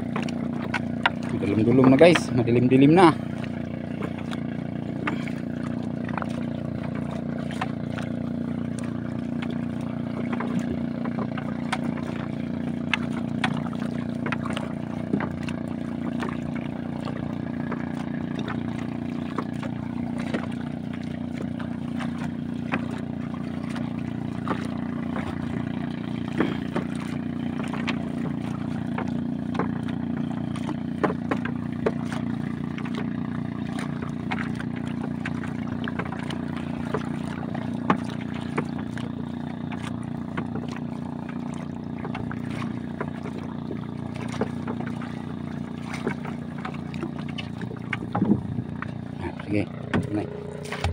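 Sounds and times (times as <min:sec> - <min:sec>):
small boat engine droning: 0:00.0 - 0:50.9.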